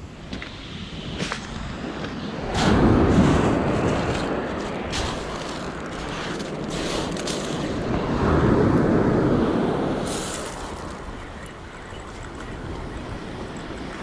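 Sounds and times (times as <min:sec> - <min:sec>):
wind buffeting microphone: 0:00.0 - 0:14.0
waves breaking on shingle beach: 0:00.4 - 0:14.0.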